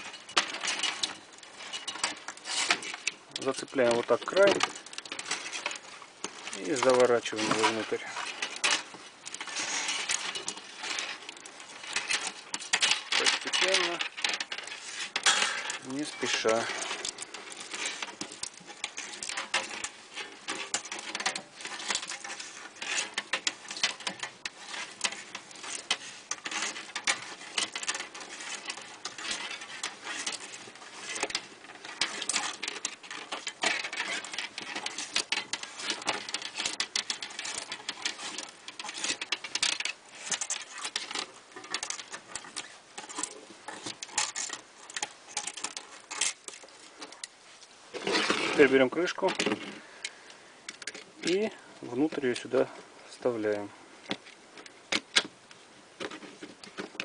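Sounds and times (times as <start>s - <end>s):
spring coils clicking and scratching: 0.0s - 47.4s
work gloves rustling: 0.0s - 57.0s.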